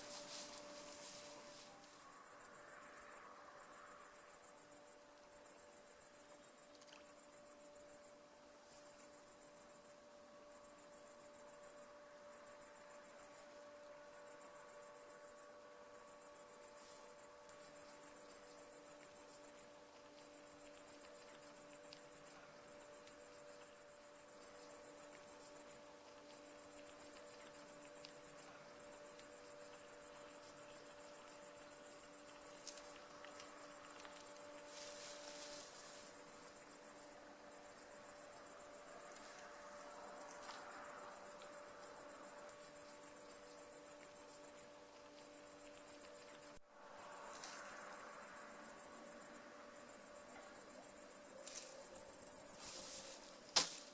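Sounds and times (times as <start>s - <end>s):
cricket trilling: 0.0s - 53.9s.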